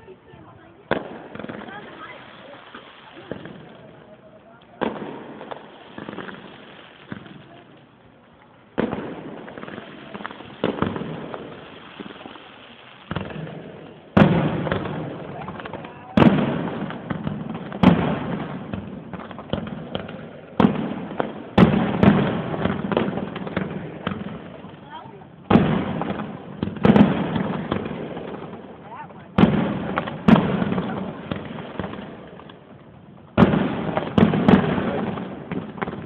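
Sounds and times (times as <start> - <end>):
firework shells booming: 0.0 - 7.8, 8.7 - 36.0.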